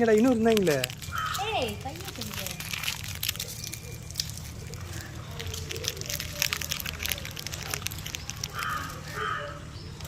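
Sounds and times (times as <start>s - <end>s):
rustling: 0.0s - 9.4s
dogs crunching snacks: 0.0s - 9.6s.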